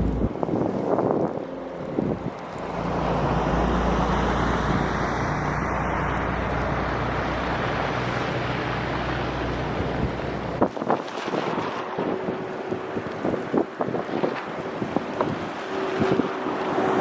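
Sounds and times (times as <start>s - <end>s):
road and wind noise: 0.0s - 17.0s
truck engine hum: 0.0s - 17.0s.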